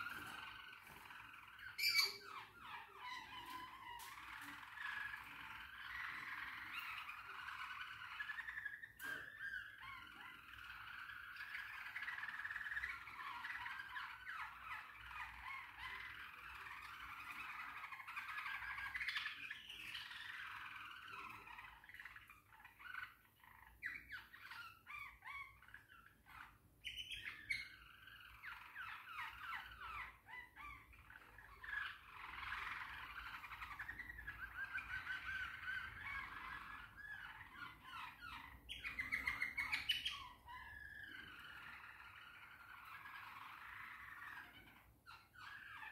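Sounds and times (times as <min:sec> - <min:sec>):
songbird chirping and trilling: 0:00.0 - 0:45.9.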